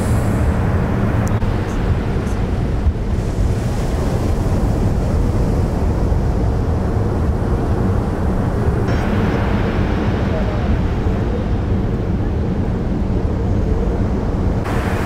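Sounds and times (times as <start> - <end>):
sea surf breaking: 0.0 - 13.3, 14.4 - 15.0
wind buffeting microphone: 0.0 - 15.0.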